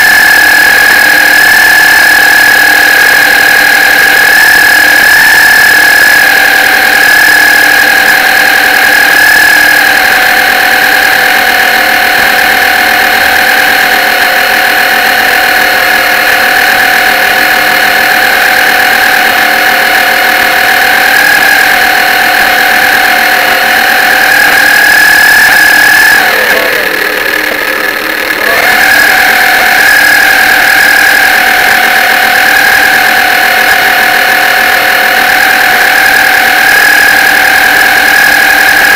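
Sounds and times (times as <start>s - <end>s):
model boat motor whining: 0.0s - 38.9s.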